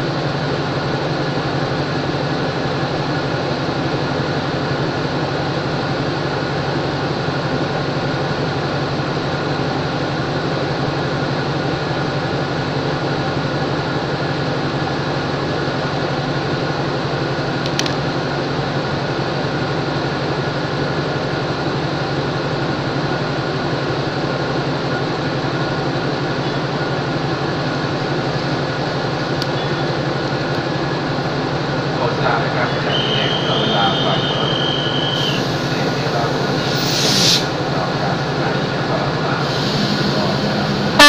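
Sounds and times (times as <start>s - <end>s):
diesel locomotive idling: 0.0s - 41.0s.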